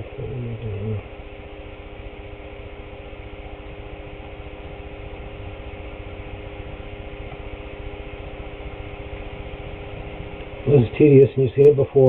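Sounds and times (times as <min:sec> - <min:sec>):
constant tones: 0:00.0 - 0:12.0
cooling fan whirring: 0:00.0 - 0:12.0.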